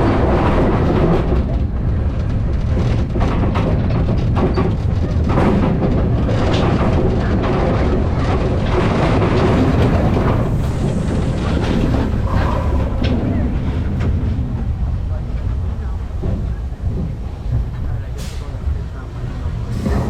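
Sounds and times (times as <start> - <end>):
roller coaster cars rattling: 0.0 - 20.0
steel wheels rumbling on rail: 0.0 - 20.0.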